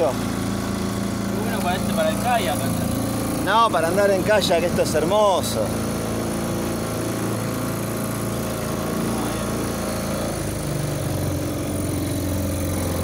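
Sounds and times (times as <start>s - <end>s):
small outboard motor running: 0.0s - 13.0s.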